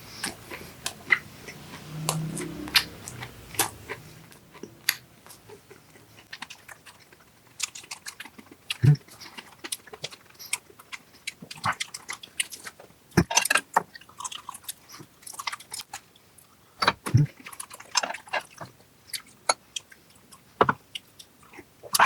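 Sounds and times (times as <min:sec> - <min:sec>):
chewing and wet mouth sounds: 0:00.0 - 0:22.0.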